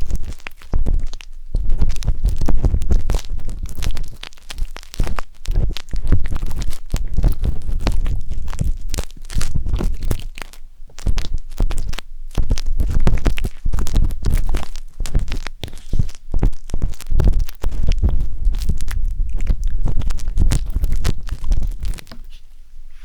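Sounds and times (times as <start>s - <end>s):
skewer scraping microphone: 0.0s - 10.4s, 11.0s - 23.0s
low rumbling thumps: 0.0s - 22.2s.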